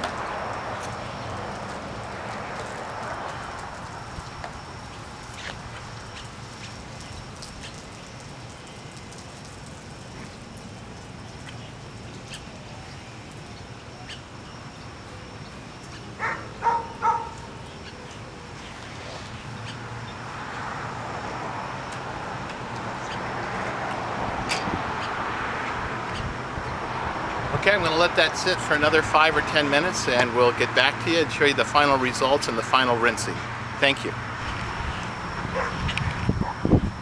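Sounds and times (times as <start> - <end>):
rush of traffic noise: 0.0 - 37.0
street background noise: 0.0 - 37.0.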